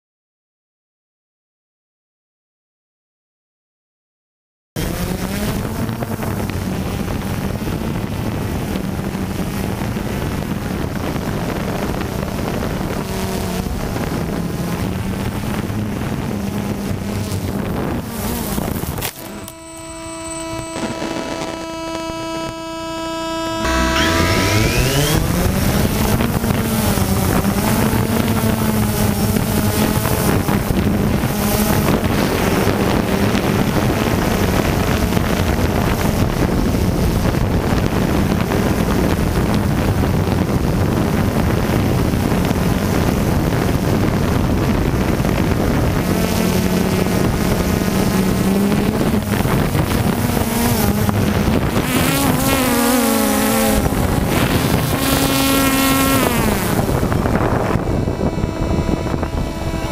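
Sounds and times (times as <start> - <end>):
drone propellers whining: 4.8 - 59.9
wind noise on microphone: 4.8 - 59.9.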